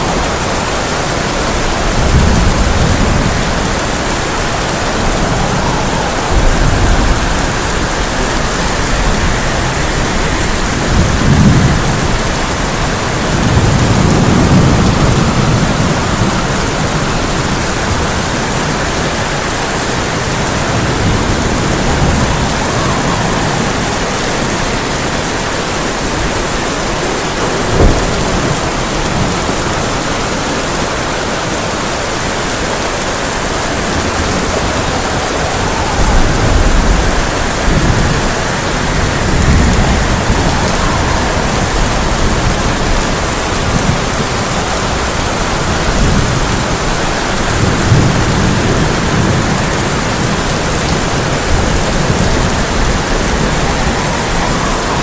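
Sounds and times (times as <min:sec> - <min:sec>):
heavy rain on a tin roof: 0:00.0 - 0:55.0
rolling thunder rumbles: 0:00.0 - 0:55.0
thunder clap: 0:00.0 - 0:55.0.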